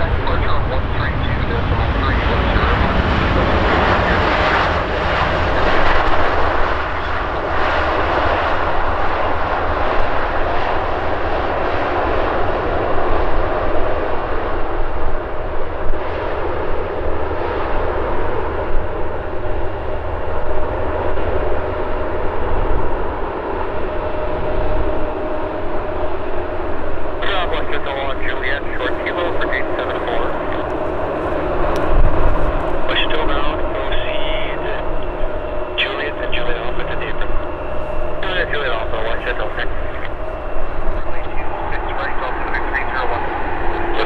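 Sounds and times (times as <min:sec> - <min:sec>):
jet engines rushing and whining: 0:00.0 - 0:44.0.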